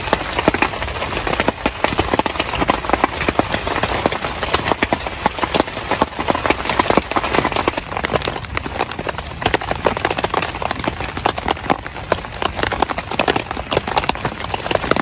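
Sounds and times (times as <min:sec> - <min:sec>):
heavy rain: 0:00.0 - 0:15.0
large raindrops tapping: 0:00.0 - 0:15.0.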